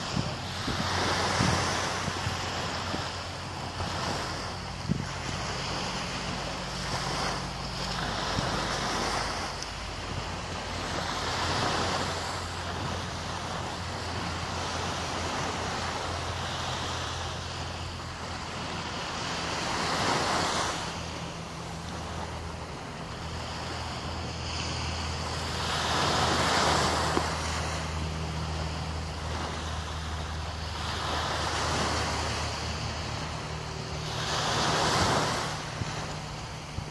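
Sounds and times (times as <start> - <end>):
low steady hum: 0.0 - 36.9
small waves washing onto shore: 0.0 - 36.9
wind: 0.0 - 36.9.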